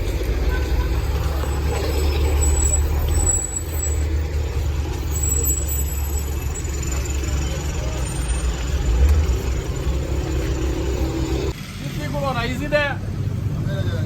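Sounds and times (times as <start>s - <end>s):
motor vehicle engine rumble: 0.0s - 14.0s
road noise: 0.0s - 14.0s.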